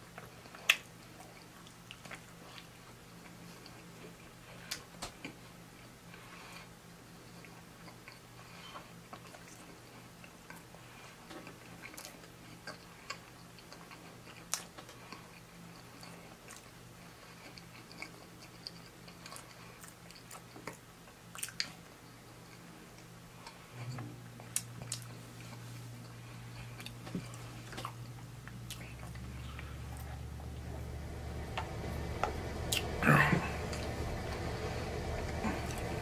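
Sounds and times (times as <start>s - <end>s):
chewing food with wet clicks: 0.0s - 5.4s, 6.1s - 30.2s
steady low hum: 0.0s - 36.0s.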